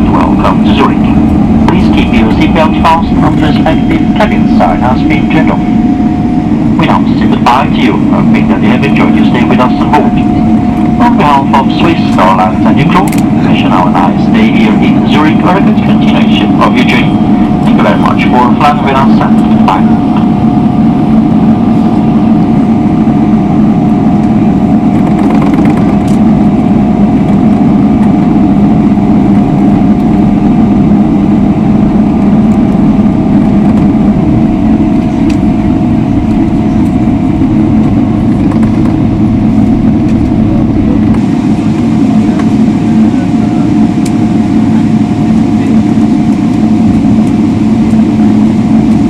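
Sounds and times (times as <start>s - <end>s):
jet engines rumbling in cabin: 0.0s - 49.0s.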